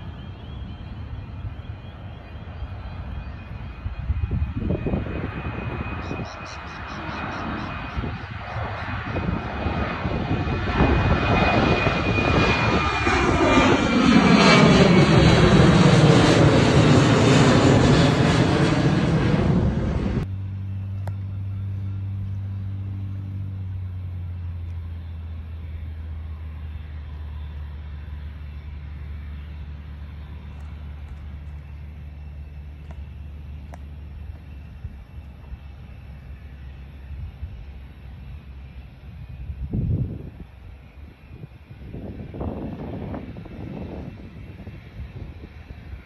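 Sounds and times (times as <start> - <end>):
distant airliner humming: 0.0 - 46.0
jet airliner engine roar: 0.0 - 46.0.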